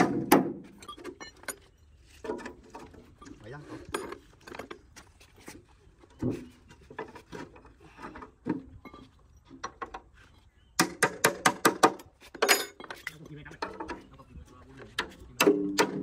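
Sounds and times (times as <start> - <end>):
metal knocks and clinks on panels: 0.0 - 4.9, 6.1 - 10.1, 10.8 - 14.2, 14.8 - 16.0.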